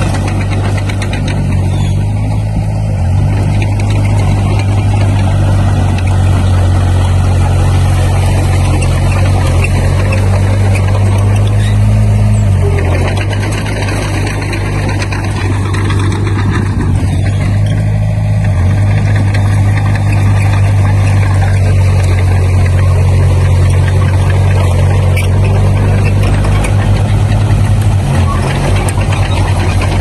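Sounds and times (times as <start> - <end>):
loud diesel engine running: 0.0 - 30.0.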